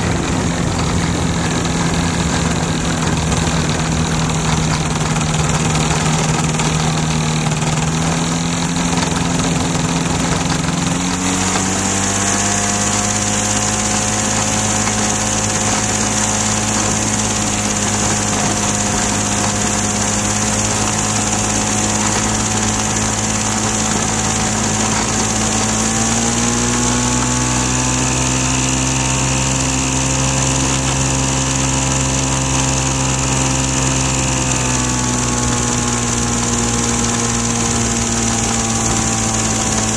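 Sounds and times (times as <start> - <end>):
light aircraft engine running: 0.0 - 39.9.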